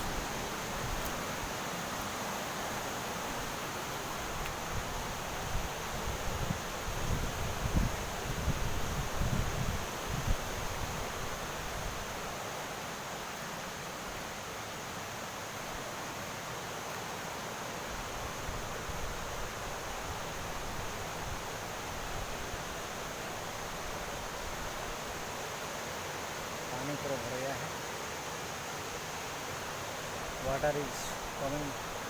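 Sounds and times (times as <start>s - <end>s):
river water rushing over a drop: 0.0s - 32.0s.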